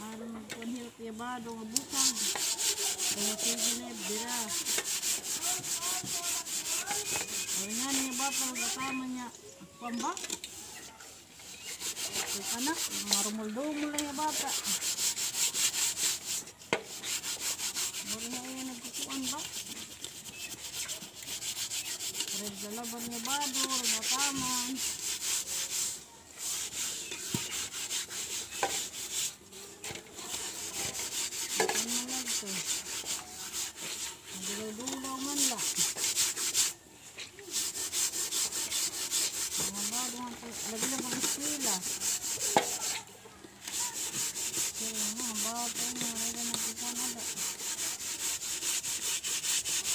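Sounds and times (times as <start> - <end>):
hand scrubbing pot with gritty paste: 0.0 - 49.9.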